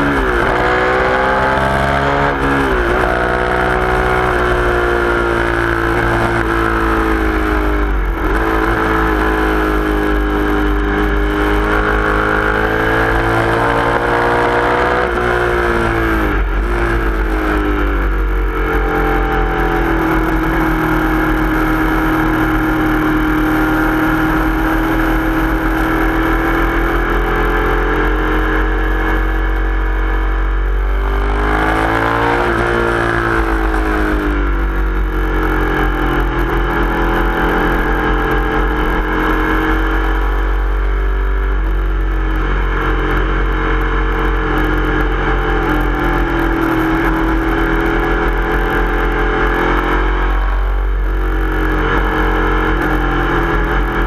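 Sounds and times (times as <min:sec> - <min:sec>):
motorcycle engine revving high: 0:00.0 - 0:54.0.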